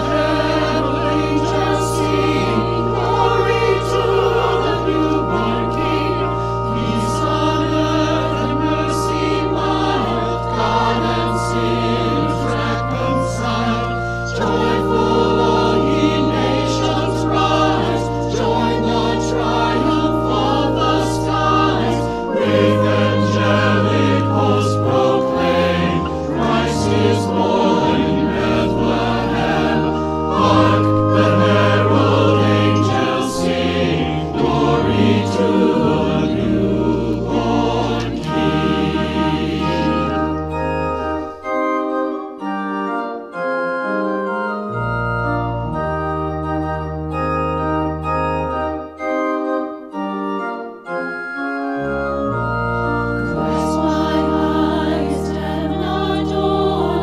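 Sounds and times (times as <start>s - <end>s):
choir singing a hymn: 0.0s - 57.0s
organ playing: 0.0s - 57.0s.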